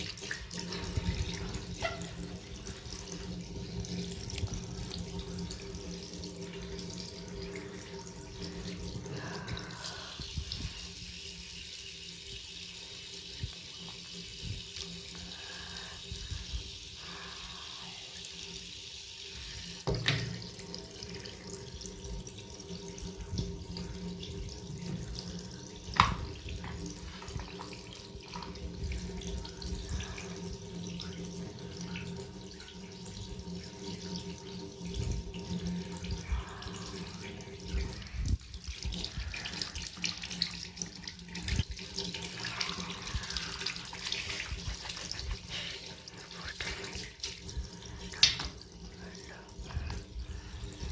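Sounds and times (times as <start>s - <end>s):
tap water running into sink: 0.0s - 50.9s.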